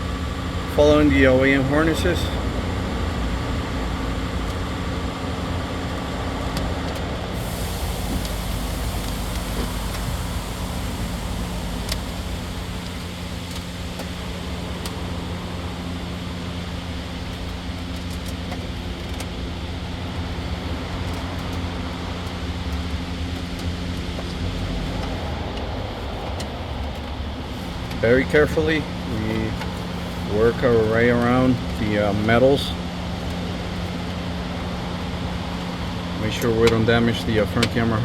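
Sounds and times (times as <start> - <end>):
mechanical hum with low rumble: 0.0 - 38.0.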